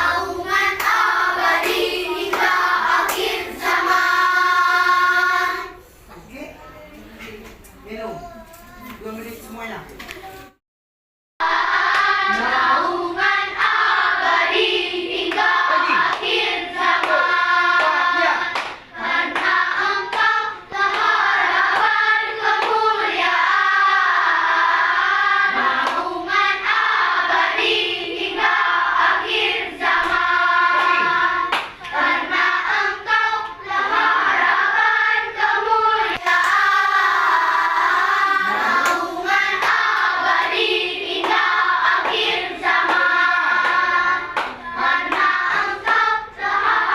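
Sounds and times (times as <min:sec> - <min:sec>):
children's choir singing: 0:00.0 - 0:05.8, 0:11.4 - 0:46.9.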